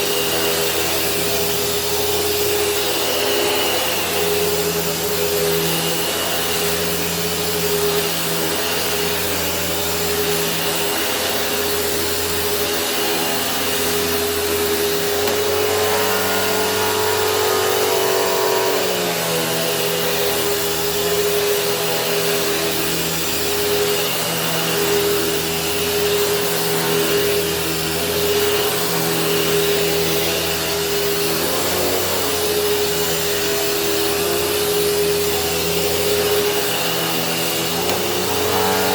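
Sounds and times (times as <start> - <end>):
upright vacuum motor whine: 0.0 - 38.9.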